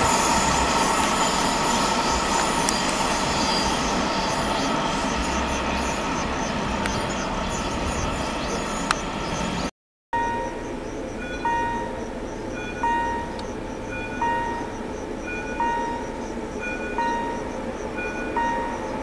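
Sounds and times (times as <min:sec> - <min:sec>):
freight train rolling over rails: 0:00.0 - 0:19.0
train wheels squealing: 0:00.0 - 0:19.0.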